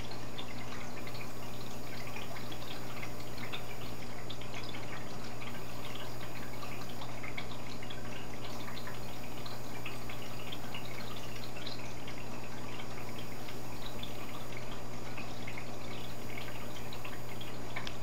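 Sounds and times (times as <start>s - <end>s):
filter water trickling and bubbling: 0.0s - 18.0s
low pump hum: 0.0s - 18.0s.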